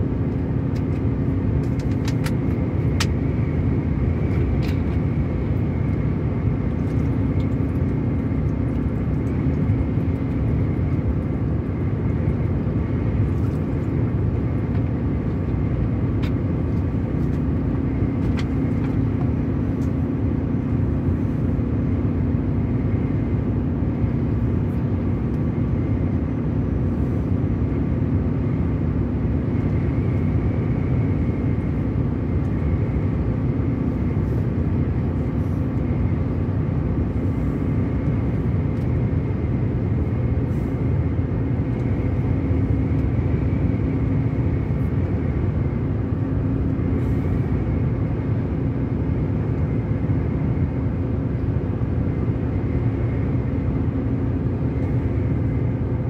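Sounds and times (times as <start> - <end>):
engine hum: 0.0 - 56.0.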